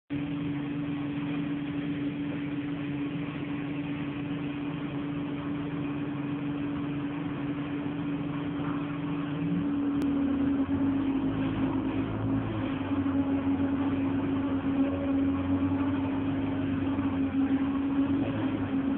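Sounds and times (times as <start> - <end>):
bus engine droning: 2.1 - 18.9.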